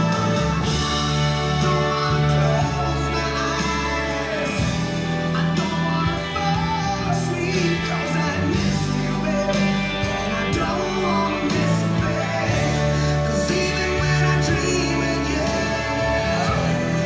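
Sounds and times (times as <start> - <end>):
song over pa speakers: 0.0 - 17.0.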